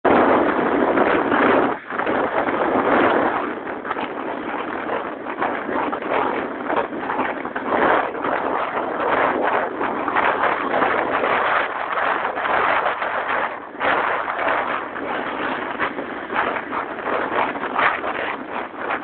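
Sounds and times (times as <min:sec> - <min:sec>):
motorbike road noise: 0:00.0 - 0:19.0
rushing wind: 0:00.0 - 0:19.0.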